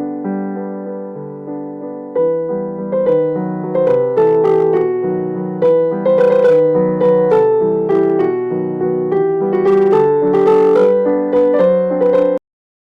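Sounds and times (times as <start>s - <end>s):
gentle piano melody: 0.0s - 12.4s.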